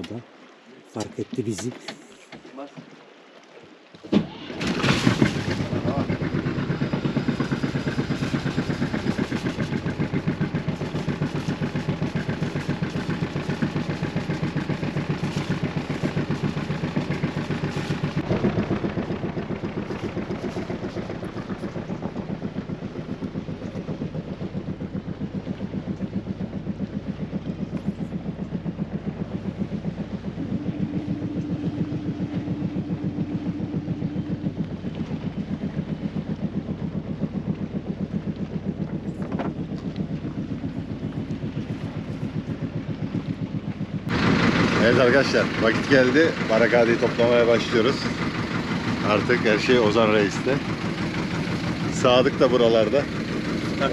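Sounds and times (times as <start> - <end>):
boat engine pulsing: 0.0 - 53.9
higher hum: 4.7 - 53.9.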